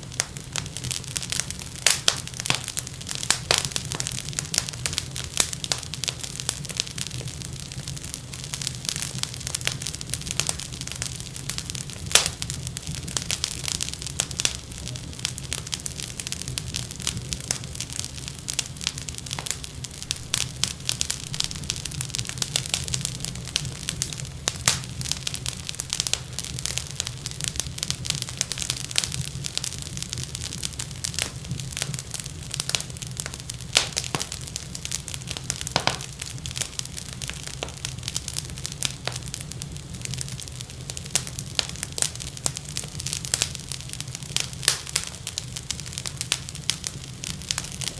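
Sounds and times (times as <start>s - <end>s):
low rumble of flames: 0.0s - 47.9s
wood fire crackling: 0.0s - 47.9s.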